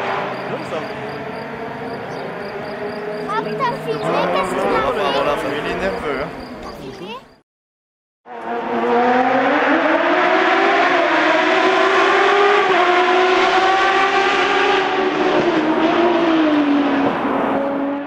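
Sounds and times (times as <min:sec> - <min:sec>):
car engine revving: 0:00.0 - 0:06.7, 0:08.3 - 0:18.0.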